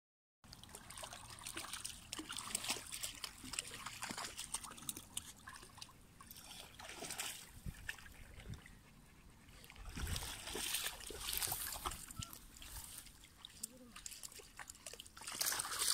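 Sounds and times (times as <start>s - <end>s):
water trickling over stones: 0.4s - 8.7s, 9.6s - 15.9s
small irregular splashes: 0.5s - 8.7s, 9.5s - 15.9s.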